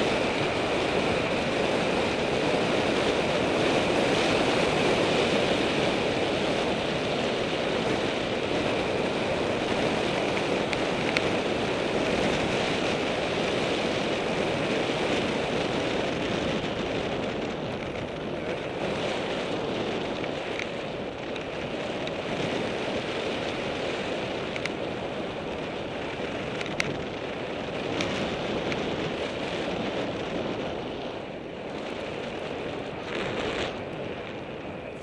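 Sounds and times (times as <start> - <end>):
tyre noise on rough road: 0.0 - 35.0
wind rushing on microphone: 0.0 - 35.0.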